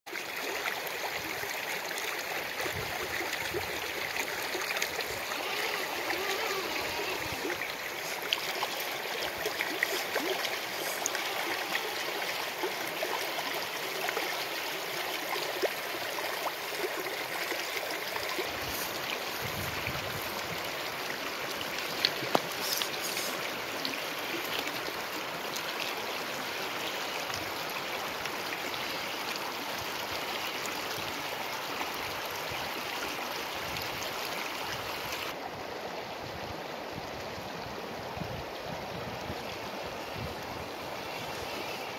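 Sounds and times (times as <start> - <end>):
river flowing over stones: 0.1 - 41.9.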